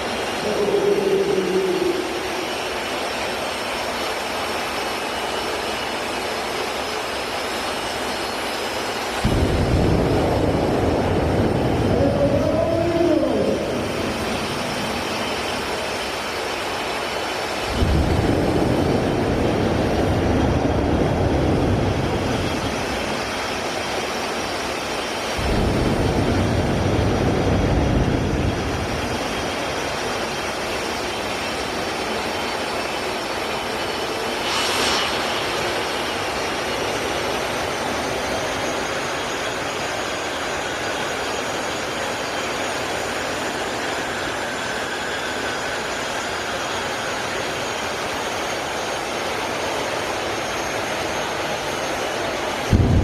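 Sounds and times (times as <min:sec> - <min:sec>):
jet engine roar and whine: 0:00.0 - 0:53.0.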